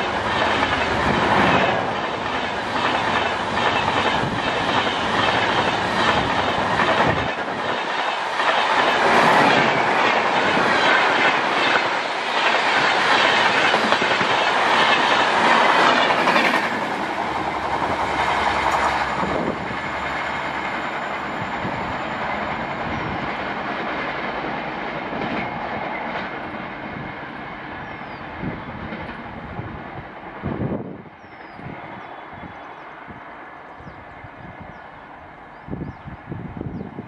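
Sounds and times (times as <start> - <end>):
train passing at speed: 0.0 - 37.0.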